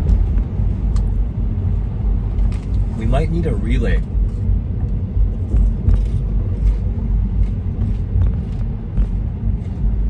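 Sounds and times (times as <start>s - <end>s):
road rumble inside car: 0.0s - 10.0s.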